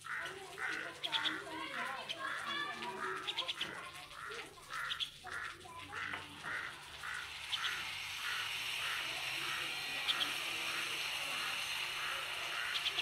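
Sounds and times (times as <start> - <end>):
birds calling rapidly: 0.0 - 13.0.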